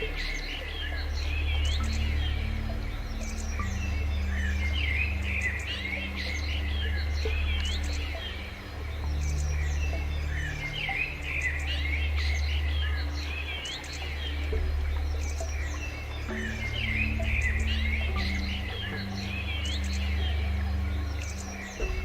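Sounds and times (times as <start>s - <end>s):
birds chirping and trilling: 0.0s - 22.0s
slow background music: 0.0s - 22.0s.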